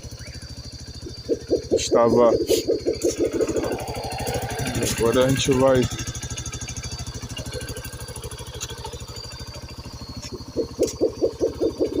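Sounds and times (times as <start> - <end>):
loud repeating pulsing sound: 0.0 - 12.0
motorcycle engine idling: 0.0 - 12.0.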